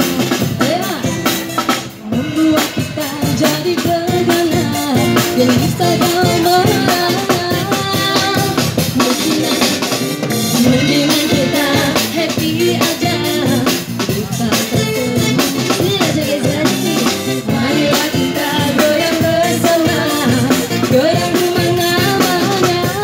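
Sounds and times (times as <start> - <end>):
drum kit beat: 0.0 - 23.0
live band playing: 0.0 - 23.0
woman singing into a microphone: 0.4 - 1.4, 2.0 - 23.0.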